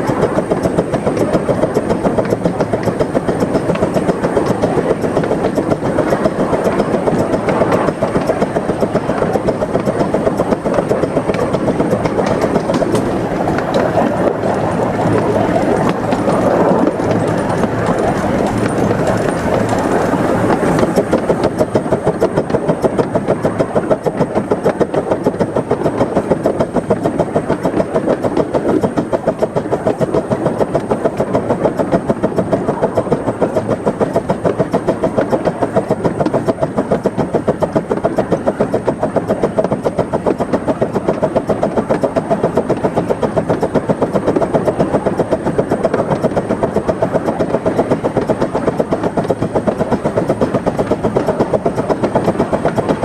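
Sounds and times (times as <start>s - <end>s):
steam locomotive exhaust chuffs: 0.0s - 53.0s
wheels on rail: 0.0s - 53.0s.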